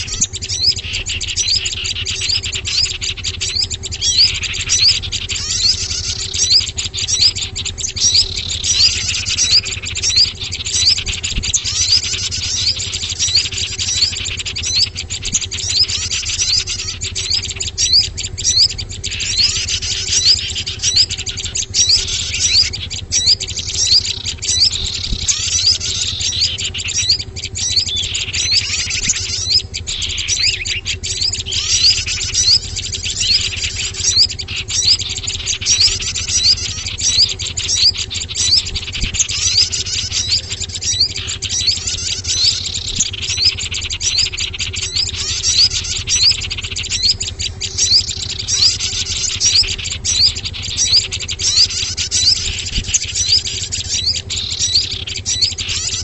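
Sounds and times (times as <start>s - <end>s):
faint low hum: 0.0s - 56.0s
songbirds chirping and twittering: 0.0s - 56.0s.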